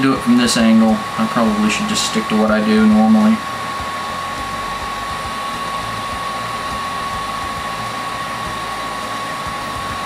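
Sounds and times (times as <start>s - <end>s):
heat gun blowing air: 0.0s - 10.0s
thin constant whine: 0.0s - 10.0s.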